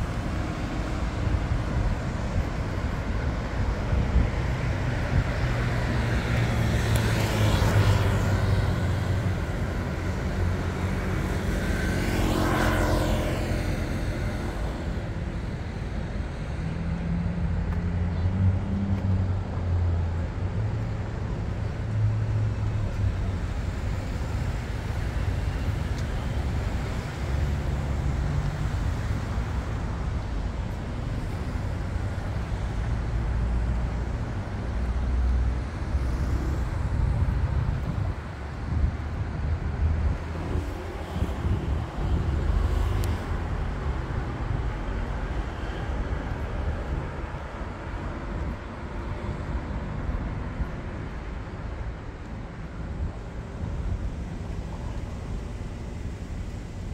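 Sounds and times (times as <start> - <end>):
road traffic rumble: 0.0 - 56.9.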